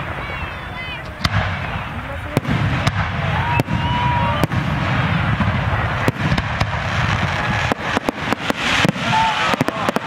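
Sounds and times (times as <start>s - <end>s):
fireworks bursting: 0.0s - 10.0s
sharp firework cracks and bangs: 0.0s - 10.0s.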